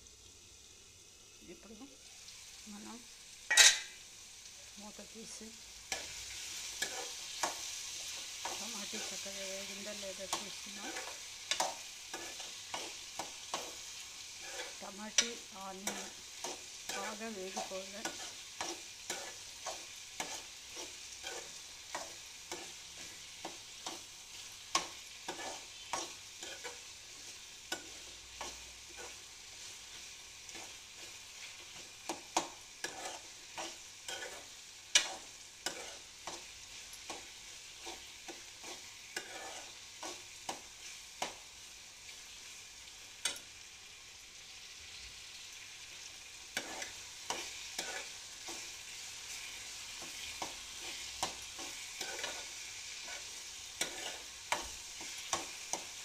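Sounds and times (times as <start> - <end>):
onion and tomato sizzling: 0.0 - 56.0
metal spoon scraping pan: 3.5 - 4.0, 5.9 - 41.4, 46.5 - 55.9.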